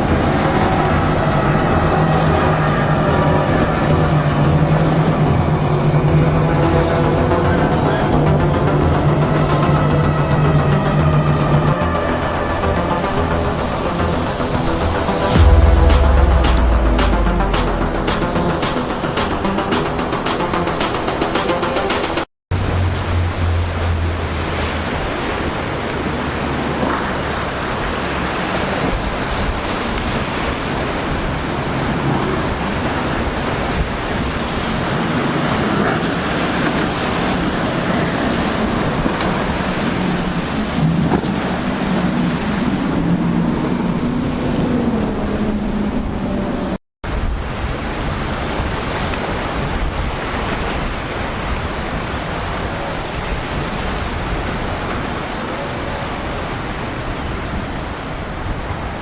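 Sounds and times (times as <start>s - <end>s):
boat engines droning: 0.0s - 59.0s
waves breaking: 0.0s - 59.0s.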